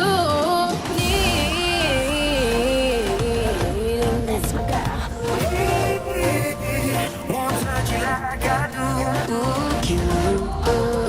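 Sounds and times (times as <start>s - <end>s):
pop music with singing: 0.0s - 11.0s.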